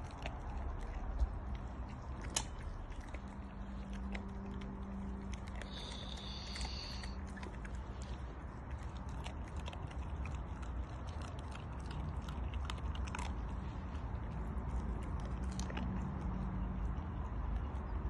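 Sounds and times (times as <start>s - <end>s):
dog crunching raw chicken bones: 0.0s - 18.0s
steady low rumble: 0.0s - 18.0s.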